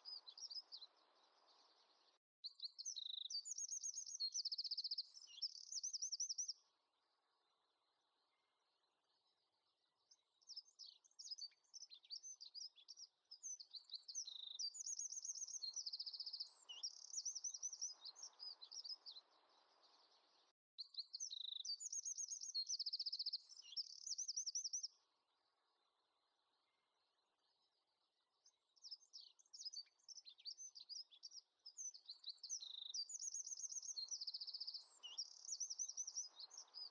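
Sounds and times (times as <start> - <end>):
songbird chirping and trilling: 0.0 - 36.9.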